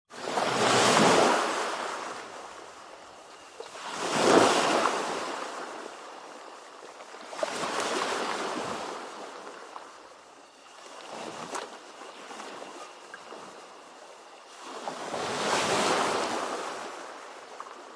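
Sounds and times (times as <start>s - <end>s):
ocean waves washing in: 0.1s - 17.9s.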